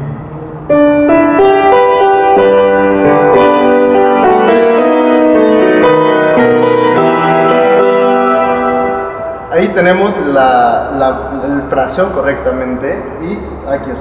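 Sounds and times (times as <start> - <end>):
grand piano melody: 0.0 - 14.0.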